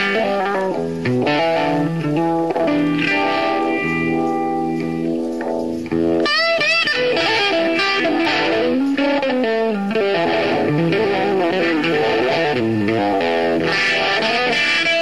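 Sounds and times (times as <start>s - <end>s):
distorted electric guitar solo: 0.0s - 15.0s.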